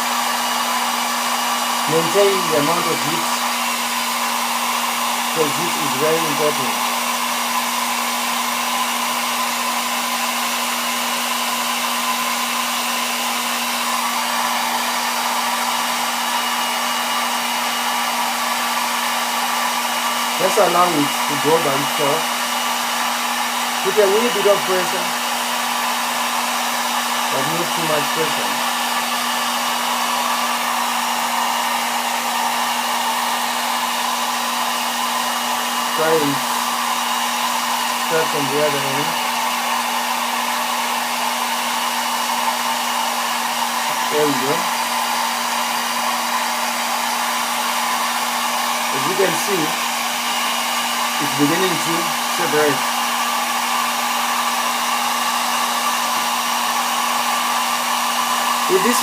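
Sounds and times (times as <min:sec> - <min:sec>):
hot-air blower running: 0:00.0 - 0:59.0.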